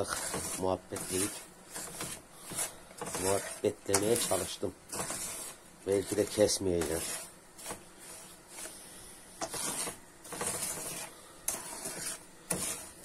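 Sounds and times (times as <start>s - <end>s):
wooden spoon scraping a pan: 0.0s - 13.0s.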